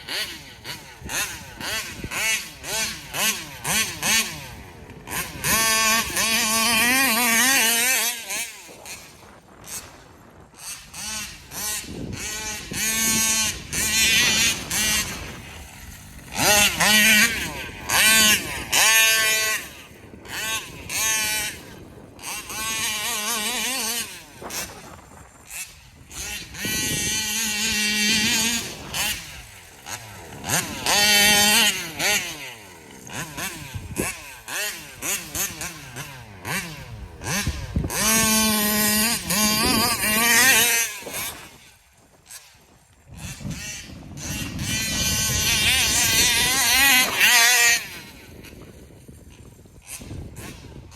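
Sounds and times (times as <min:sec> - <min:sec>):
rc car engine revving: 0:00.0 - 0:50.9.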